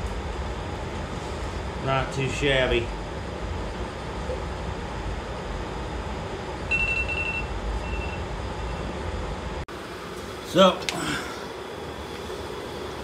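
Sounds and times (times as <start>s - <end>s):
shop equipment humming: 0.0s - 13.0s.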